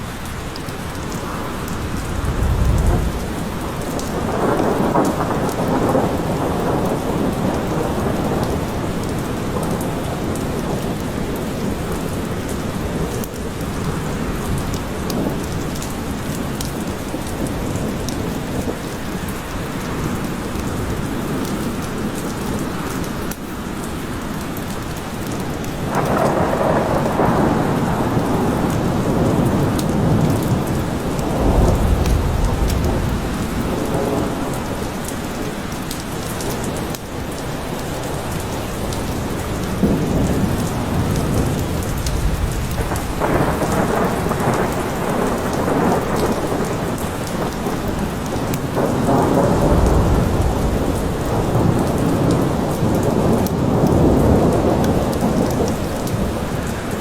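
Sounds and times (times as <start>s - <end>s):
steady rain falling: 0.0s - 57.0s
rain drop ticks: 0.1s - 57.0s
thunder rumbling: 1.0s - 19.2s, 25.9s - 35.5s, 37.9s - 57.0s.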